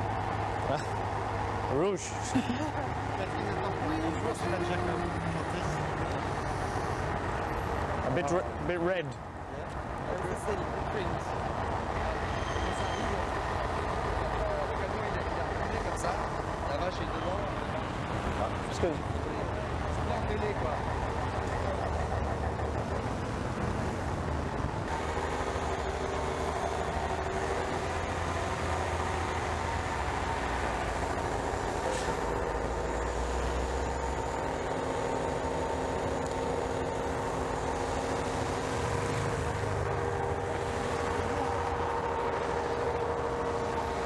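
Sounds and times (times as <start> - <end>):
heavy vehicle engine running: 0.0 - 44.0.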